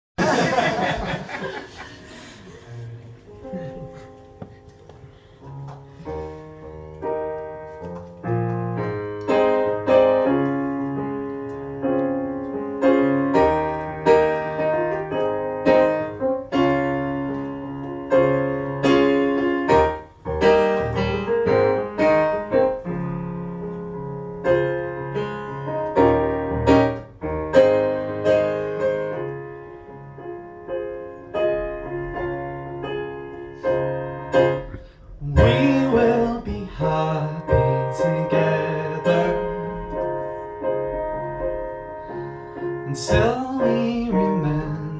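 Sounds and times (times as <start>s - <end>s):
solo piano chords: 0.2s - 44.9s.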